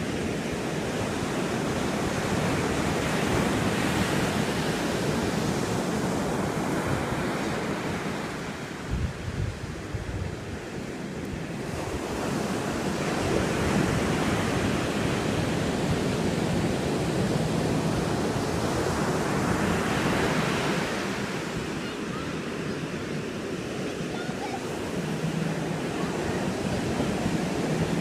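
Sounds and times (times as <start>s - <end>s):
ocean surf washing up beach: 0.0s - 28.0s.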